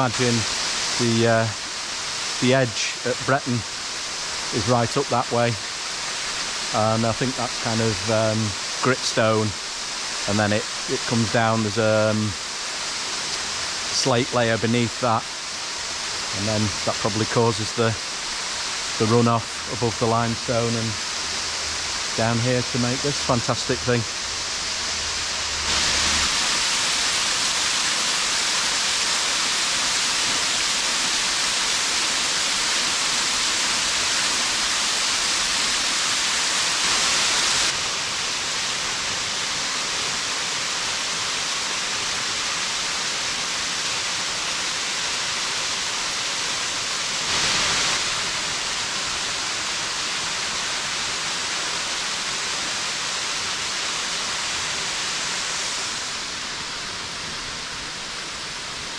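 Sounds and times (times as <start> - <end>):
waterfall pouring over rocks: 0.0 - 58.9.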